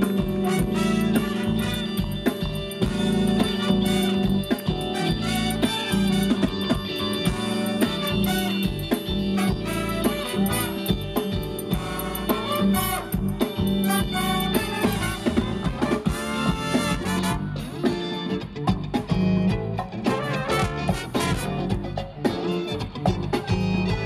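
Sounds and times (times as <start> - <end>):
drum kit steady beat: 0.0 - 24.0
guitar: 0.0 - 24.0
keyboard: 0.0 - 24.0.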